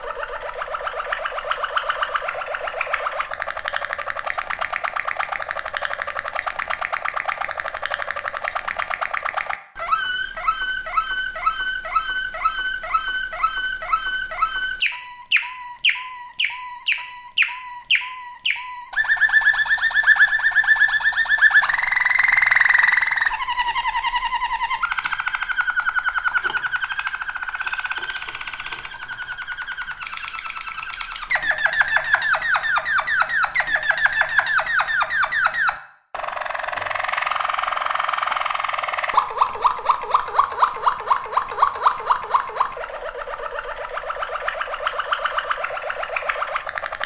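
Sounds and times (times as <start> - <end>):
canary singing trills: 0.0 - 47.0.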